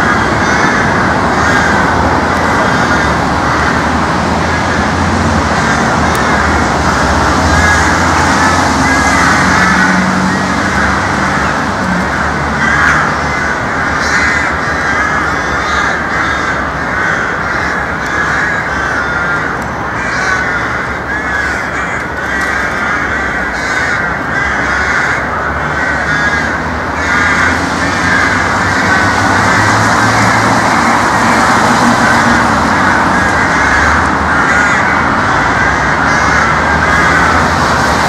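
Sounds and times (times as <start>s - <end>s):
crows cawing: 0.0s - 38.0s.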